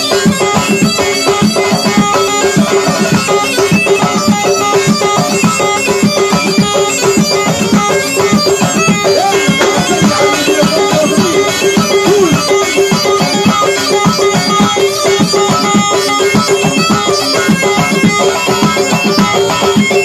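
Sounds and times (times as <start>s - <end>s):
bagpipe playing ornamented melody: 0.0s - 20.0s
hand drum strokes: 0.0s - 20.0s.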